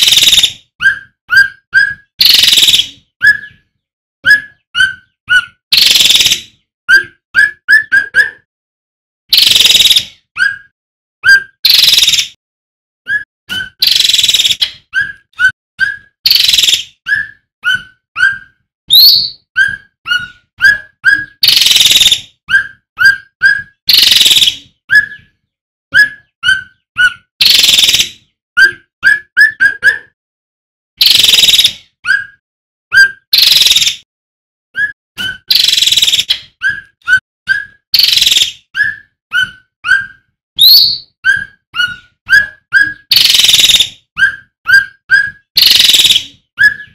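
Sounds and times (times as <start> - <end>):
songbird whistling and rasping: 0.0 - 8.4, 9.3 - 12.4, 13.0 - 30.0, 31.0 - 34.0, 34.8 - 46.9.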